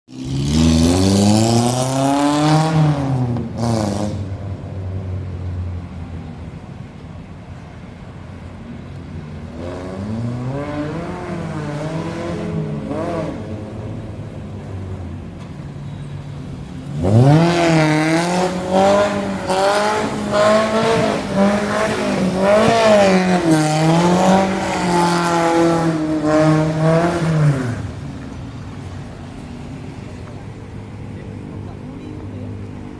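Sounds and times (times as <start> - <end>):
car engine revving: 0.1 - 4.5, 9.3 - 15.6, 16.6 - 32.9.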